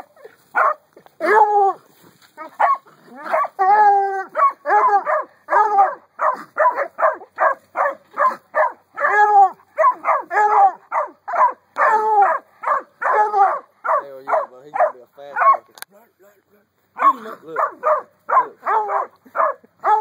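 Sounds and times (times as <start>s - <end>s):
dog barking rapidly: 0.0s - 1.4s, 2.4s - 3.6s, 4.2s - 15.7s, 17.0s - 20.0s.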